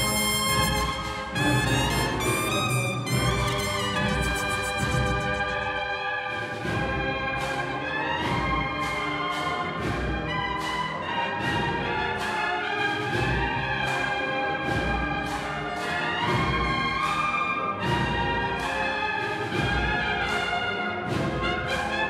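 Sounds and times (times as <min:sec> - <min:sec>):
snare and bass drums: 0:00.0 - 0:17.2, 0:17.8 - 0:22.0
bugles playing march chords: 0:00.0 - 0:22.0.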